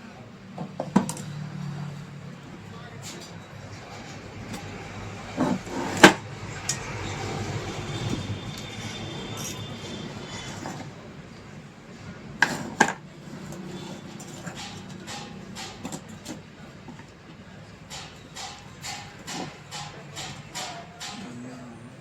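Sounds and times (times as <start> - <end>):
hard objects clinking and knocking: 2.4 - 11.5, 12.4 - 21.5.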